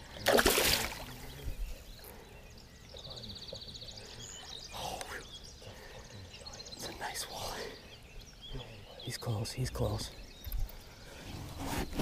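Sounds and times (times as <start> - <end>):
lakeside ambience: 0.0 - 12.0.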